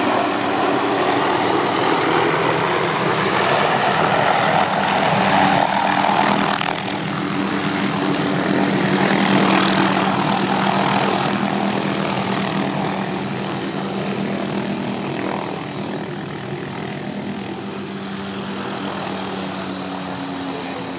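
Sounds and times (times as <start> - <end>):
helicopter engine and rotor: 0.0 - 20.9.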